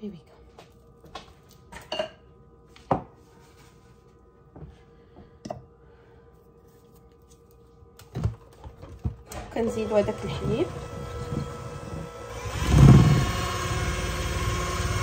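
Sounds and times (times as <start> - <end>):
faint steady hum: 0.0 - 12.6.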